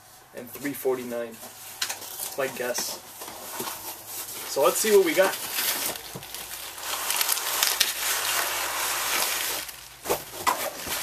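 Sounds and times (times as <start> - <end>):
bubble wrap rustling and crinkling: 1.4 - 11.0.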